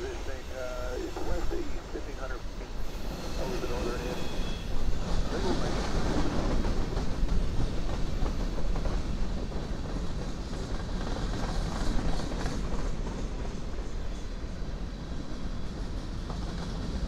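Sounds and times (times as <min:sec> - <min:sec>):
freight train wheels clacking: 0:00.0 - 0:17.0.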